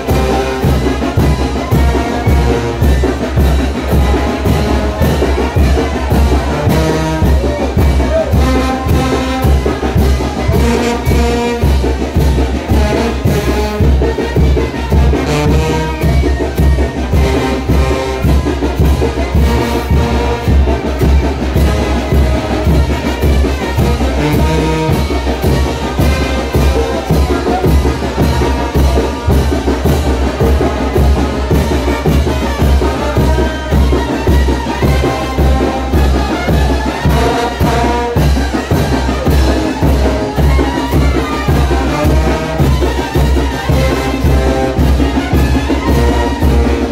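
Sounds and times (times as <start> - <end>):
brass band playing: 0.0 - 46.9
steady drum beat: 0.0 - 46.9.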